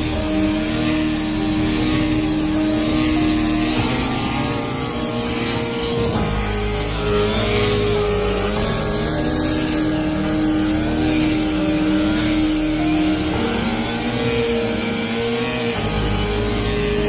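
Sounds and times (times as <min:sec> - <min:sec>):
harvesting machine engine running: 0:00.0 - 0:17.0.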